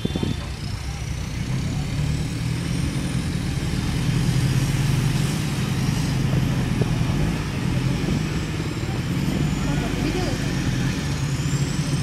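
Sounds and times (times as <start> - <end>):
tyre and road noise: 0.0 - 12.0
vehicle engine running: 0.0 - 12.0.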